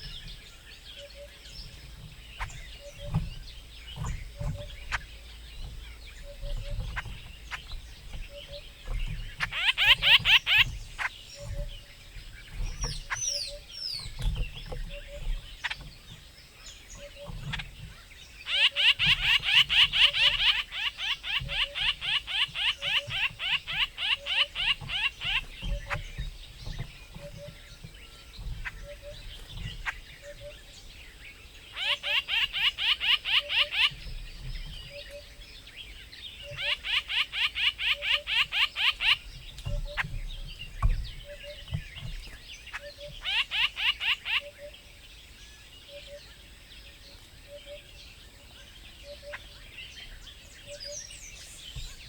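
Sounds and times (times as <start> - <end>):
bird singing trills: 0.0 - 52.0.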